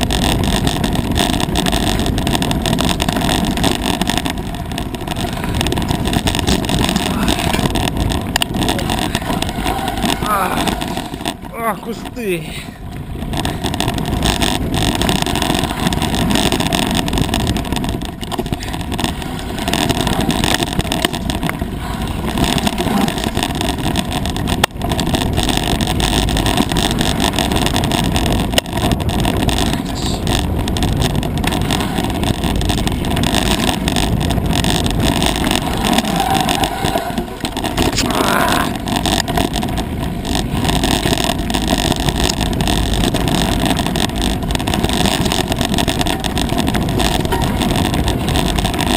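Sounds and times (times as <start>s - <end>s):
bike rattling over rough dirt: 0.0s - 48.9s
wind rushing over microphone: 0.0s - 48.9s.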